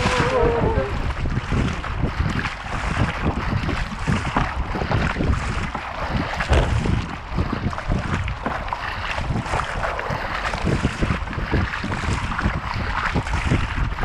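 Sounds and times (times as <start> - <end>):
water rushing past kayak hull: 0.0 - 14.0
wind buffeting microphone: 0.0 - 14.0.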